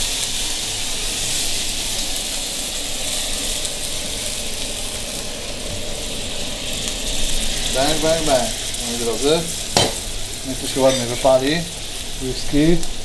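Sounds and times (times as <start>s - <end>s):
steaks sizzling in a frying pan: 0.0s - 13.0s.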